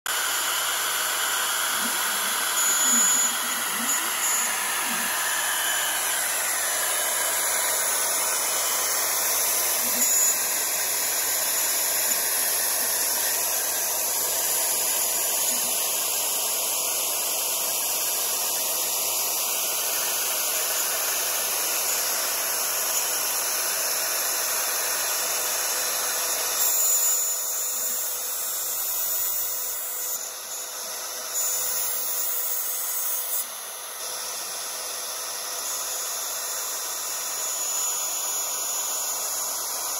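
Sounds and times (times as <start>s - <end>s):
router milling aluminium whine: 0.1s - 39.9s.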